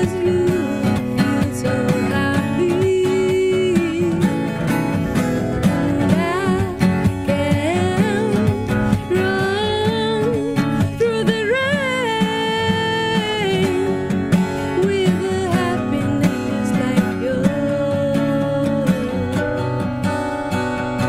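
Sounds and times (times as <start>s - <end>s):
woman singing: 0.0s - 4.8s, 5.4s - 19.8s
strummed acoustic guitar: 0.0s - 21.0s.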